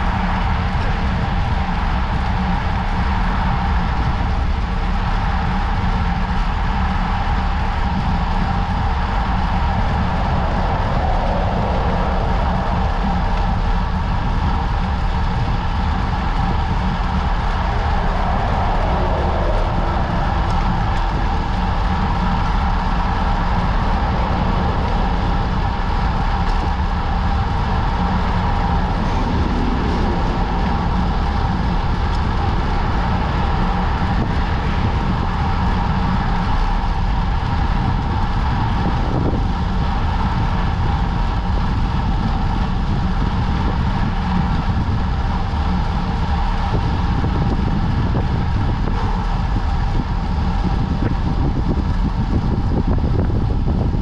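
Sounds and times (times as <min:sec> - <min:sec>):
bicycle tyre and road noise: 0:00.0 - 0:54.0
wind on microphone: 0:00.0 - 0:54.0.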